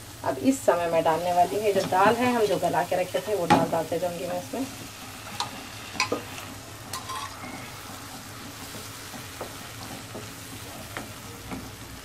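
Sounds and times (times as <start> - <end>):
wet sizzle in a pan: 0.0 - 12.0.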